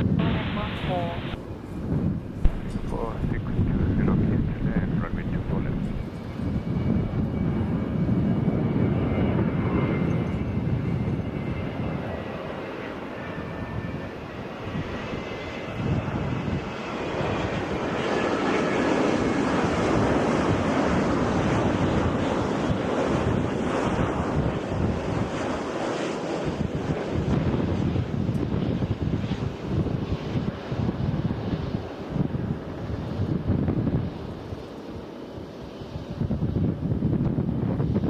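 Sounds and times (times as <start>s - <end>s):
jet engines rumbling: 0.0s - 38.0s
wind on microphone: 0.0s - 38.0s.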